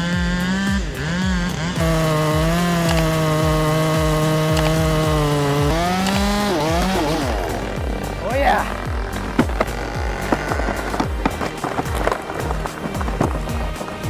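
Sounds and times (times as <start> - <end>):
chainsaw engine at high revs: 0.0 - 14.0.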